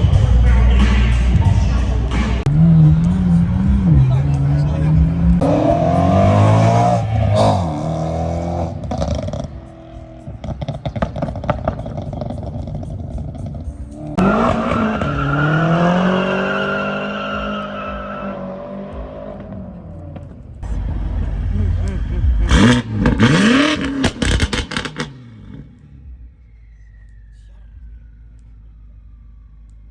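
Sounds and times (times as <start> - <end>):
car engine revving: 0.0 - 29.9
rapid exhaust crackling: 0.0 - 29.9.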